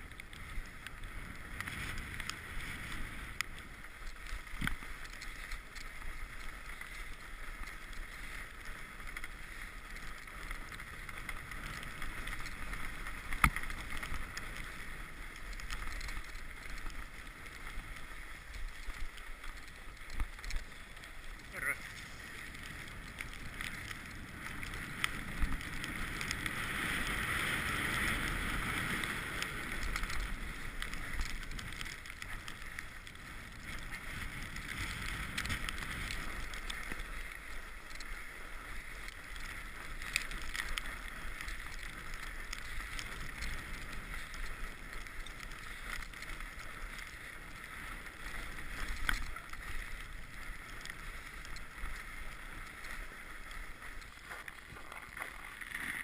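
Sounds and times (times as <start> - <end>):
bike clicks and rattles: 0.0 - 56.0
tyre and wind noise: 0.0 - 56.0.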